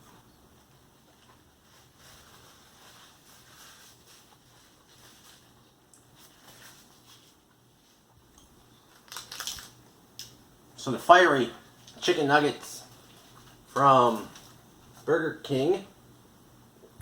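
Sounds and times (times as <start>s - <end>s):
crackly rustle: 0.1s - 10.4s, 11.8s - 15.1s.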